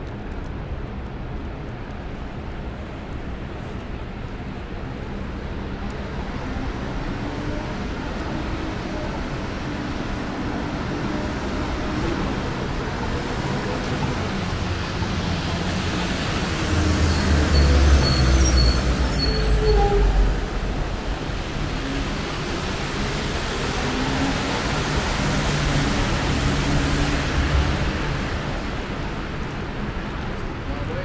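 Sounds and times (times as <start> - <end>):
city street traffic: 0.0 - 31.0.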